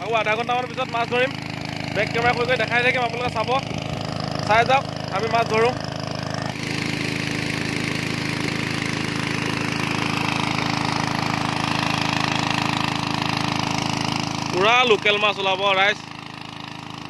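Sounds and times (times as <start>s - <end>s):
water pump engine running: 0.0s - 17.0s
water rushing from pipe: 0.0s - 17.0s.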